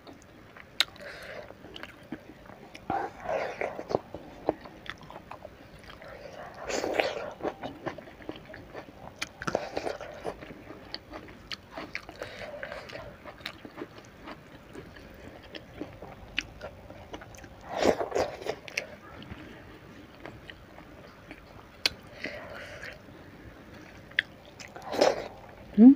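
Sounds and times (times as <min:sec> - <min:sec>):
chewing with wet clicks: 0:00.0 - 0:23.0, 0:23.7 - 0:25.6.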